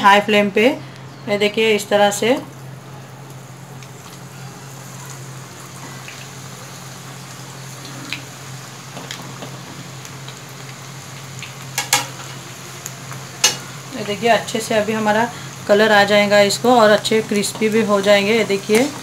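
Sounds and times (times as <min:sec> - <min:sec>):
food sizzling in hot oil: 0:01.8 - 0:19.0.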